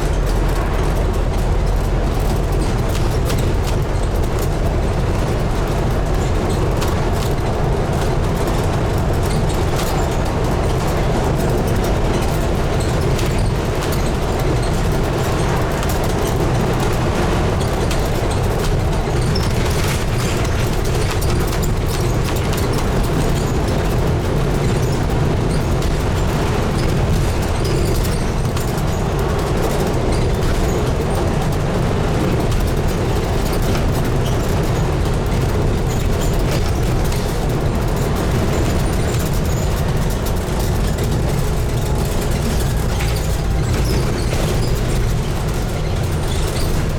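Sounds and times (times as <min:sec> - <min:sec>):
diesel bus engine: 0:00.0 - 0:46.9
road noise inside bus: 0:00.0 - 0:46.9.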